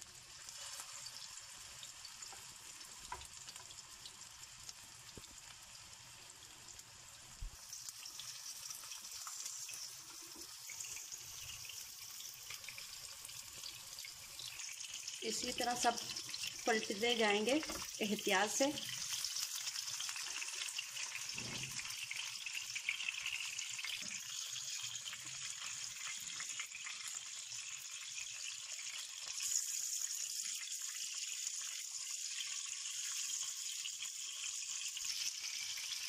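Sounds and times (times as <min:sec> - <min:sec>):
meat sizzling in hot oil: 0:00.0 - 0:36.0.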